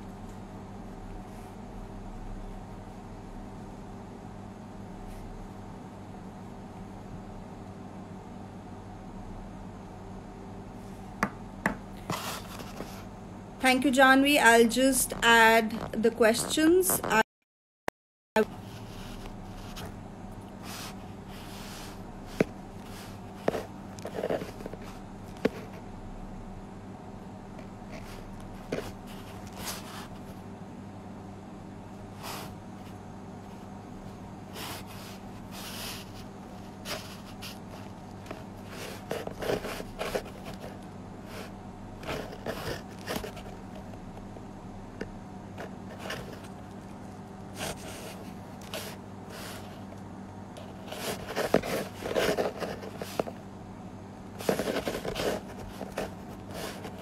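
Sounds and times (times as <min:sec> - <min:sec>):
low electrical hum: 0:00.0 - 0:17.2, 0:18.4 - 0:57.0.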